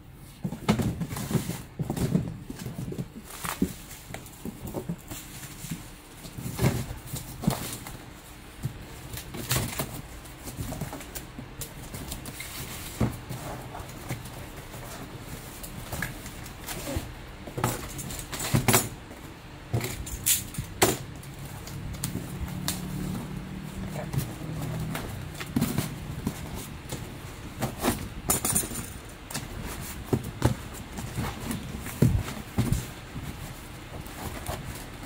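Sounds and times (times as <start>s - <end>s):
low steady hum: 0.0s - 35.0s
cardboard and bubble wrap rustling: 0.2s - 35.0s.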